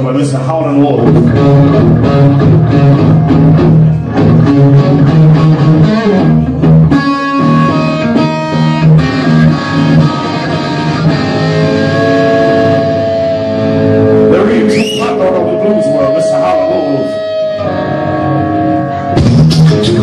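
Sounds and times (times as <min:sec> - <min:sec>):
live rock band playing: 0:00.9 - 0:20.0
ringing guitar notes: 0:01.1 - 0:19.4.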